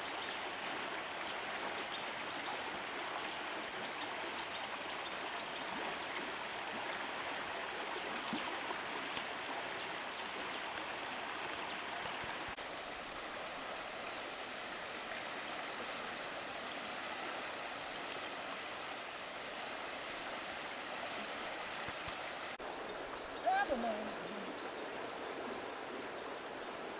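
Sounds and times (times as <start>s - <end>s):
river flowing over rocks: 0.0s - 26.9s.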